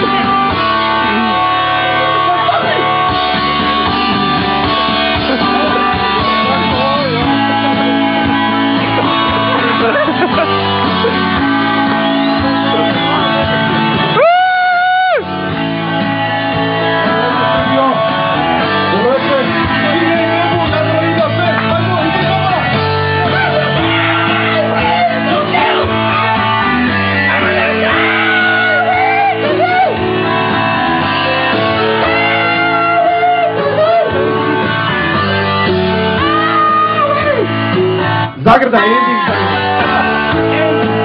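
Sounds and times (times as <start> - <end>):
electric guitar rock music: 0.0 - 41.0.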